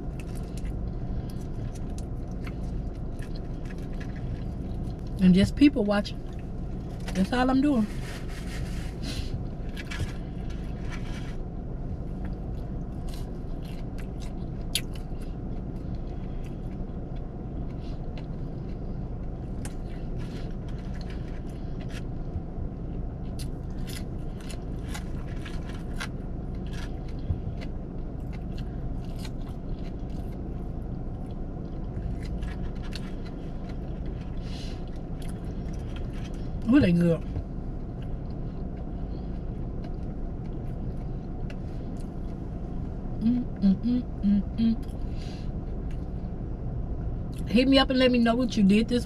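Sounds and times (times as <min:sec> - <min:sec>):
person chewing fries: 0:00.0 - 0:05.2, 0:06.1 - 0:07.2, 0:07.9 - 0:36.6, 0:37.4 - 0:43.0, 0:44.8 - 0:46.4
low hum: 0:00.0 - 0:49.0.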